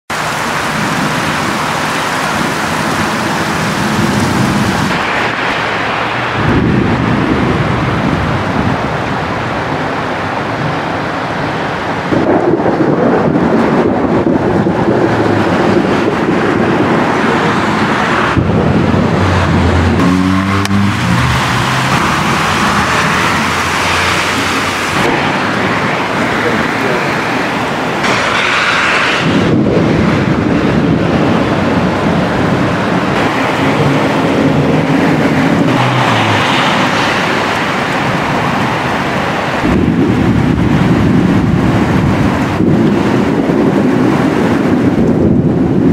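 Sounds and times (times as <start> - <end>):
steady rain: 0.1 - 45.9
vehicle engine on wet road: 0.1 - 45.9
rolling thunder: 0.2 - 45.9.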